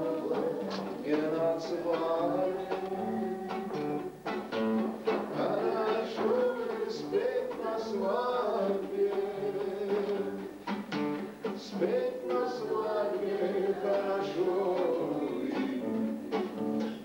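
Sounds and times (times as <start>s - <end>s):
person singing: 0.0s - 10.5s, 11.4s - 17.0s
strummed guitar: 0.0s - 17.0s.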